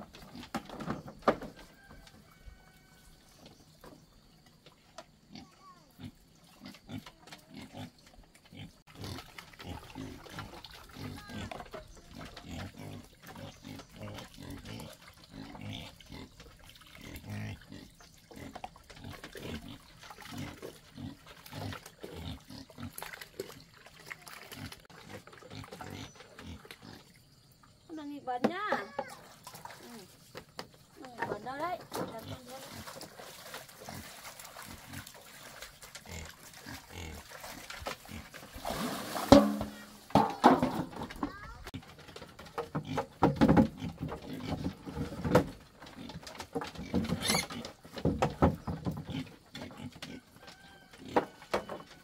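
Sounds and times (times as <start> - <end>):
pigs grunting: 5.2 - 27.2, 31.9 - 52.0
hose water running into bucket: 6.3 - 52.0.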